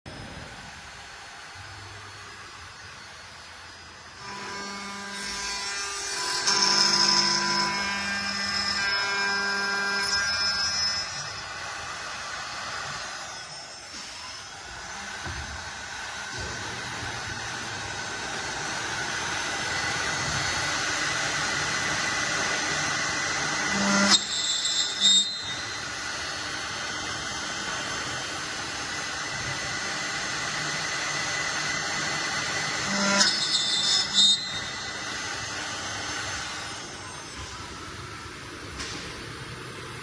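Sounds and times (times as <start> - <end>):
milling machine whine: 0.1 - 40.0.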